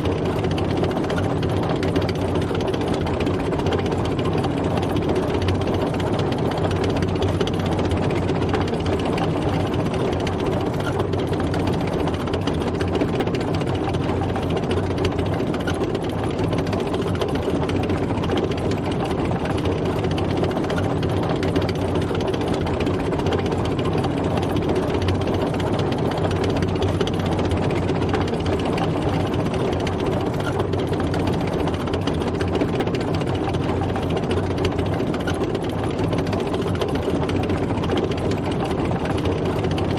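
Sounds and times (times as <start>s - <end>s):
tank engine rumbling: 0.0s - 39.9s.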